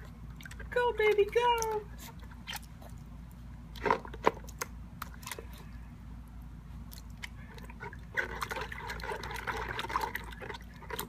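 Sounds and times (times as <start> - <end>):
dog splashing in water bowl: 0.0 - 5.8, 6.8 - 11.0.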